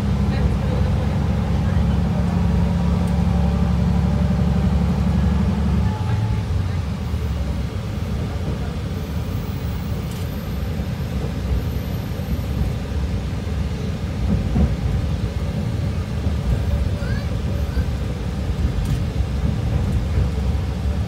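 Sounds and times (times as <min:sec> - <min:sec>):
train running gear rumbling: 0:00.0 - 0:21.0.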